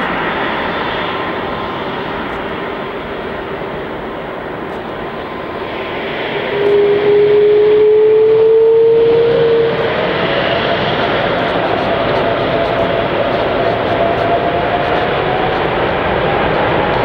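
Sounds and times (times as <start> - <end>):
higher jet engine whine: 0.0 - 17.0
jet engine noise: 0.0 - 17.0
jet engine whine rising in pitch: 0.0 - 17.0.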